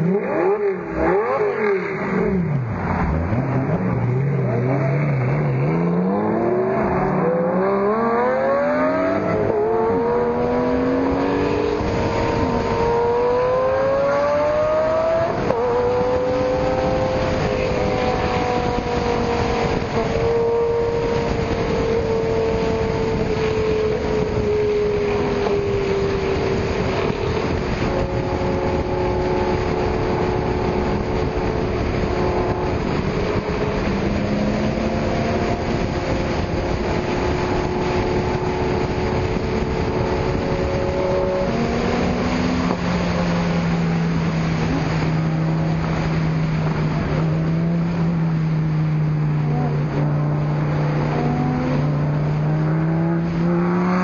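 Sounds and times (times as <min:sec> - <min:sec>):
sports car engines running: 0:00.0 - 0:54.0.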